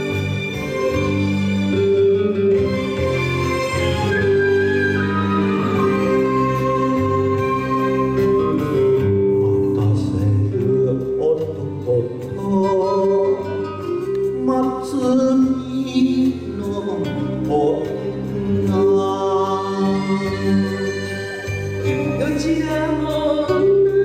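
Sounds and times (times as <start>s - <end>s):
instrumental ballad backing music: 0.0s - 24.0s.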